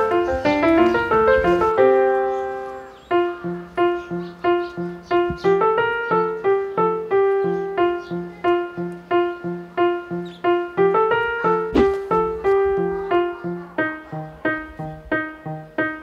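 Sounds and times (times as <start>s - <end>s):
keyboard tune: 0.0s - 16.0s.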